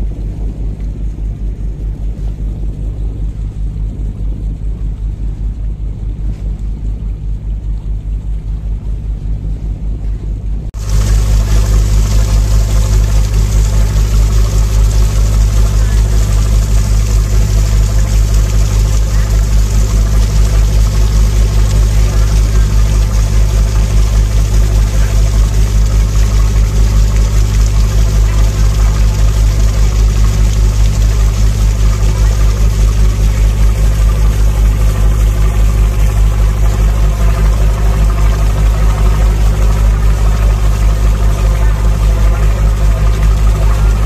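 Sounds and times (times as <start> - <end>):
ferry engine humming: 0.0 - 44.0.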